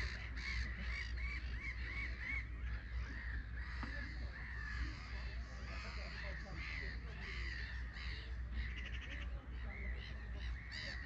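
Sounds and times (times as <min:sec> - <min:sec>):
birds calling rapidly: 0:00.0 - 0:11.0
steady low hum: 0:00.0 - 0:11.0.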